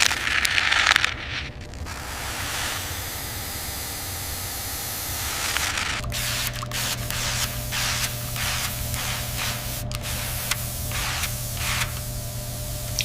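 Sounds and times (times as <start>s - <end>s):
liquid spraying: 0.0s - 13.0s
low steady hum: 0.0s - 13.0s.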